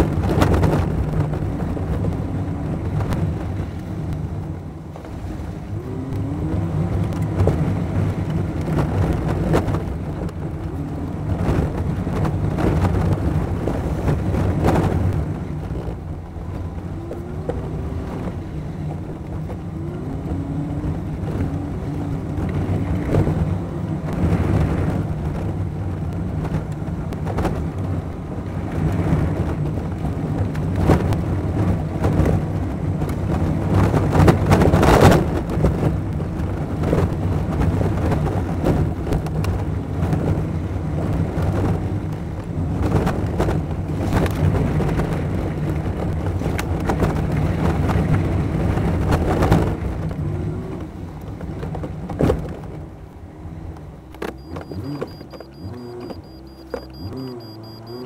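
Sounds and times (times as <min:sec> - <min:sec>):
vehicle engine drone: 0:00.0 - 0:58.0.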